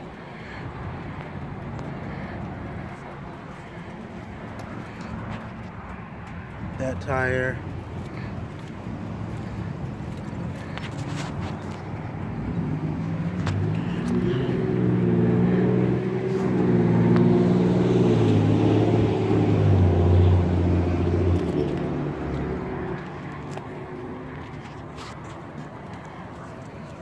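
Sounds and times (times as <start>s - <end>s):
vehicle engine passing by: 1.8s - 27.0s.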